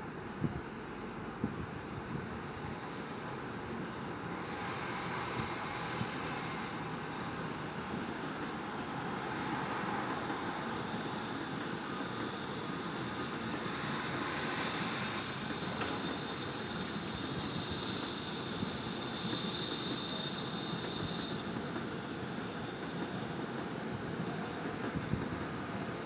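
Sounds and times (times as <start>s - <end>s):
city traffic noise: 0.0s - 26.0s.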